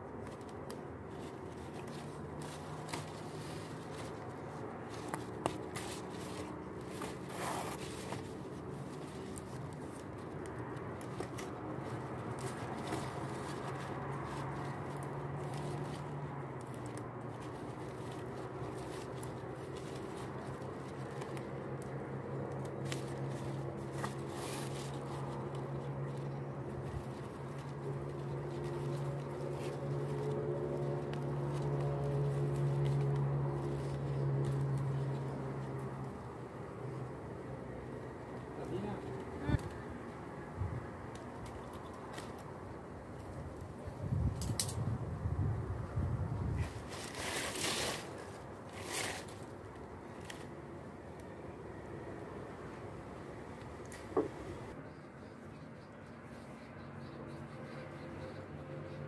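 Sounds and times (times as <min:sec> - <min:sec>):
leaves and tape rustling: 0:00.0 - 0:54.8.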